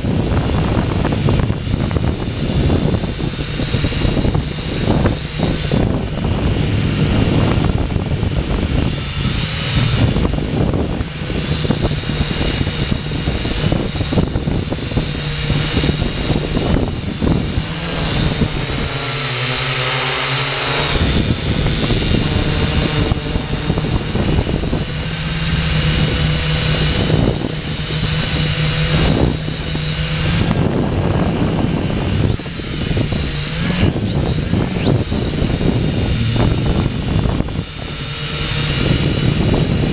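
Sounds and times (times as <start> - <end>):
drone motors whining: 0.0 - 39.9
low hum: 0.0 - 39.9
wind buffeting microphone: 0.0 - 39.9.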